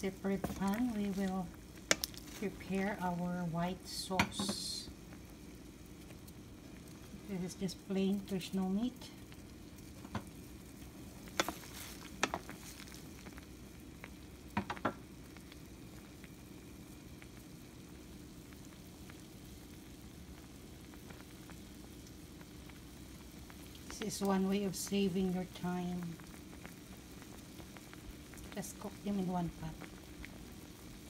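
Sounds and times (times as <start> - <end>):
water boiling in a pan: 0.0 - 31.0.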